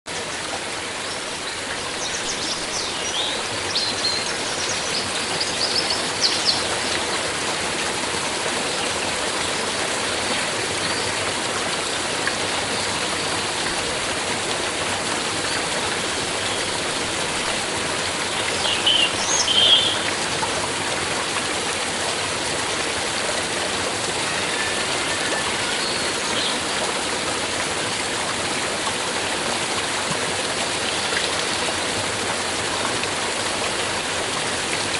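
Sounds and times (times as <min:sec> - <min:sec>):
stream of water running: 0:00.1 - 0:34.9.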